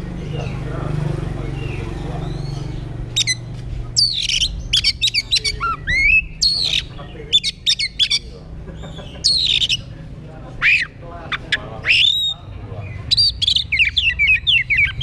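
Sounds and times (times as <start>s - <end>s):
bird singing varied song: 0.0s - 15.0s.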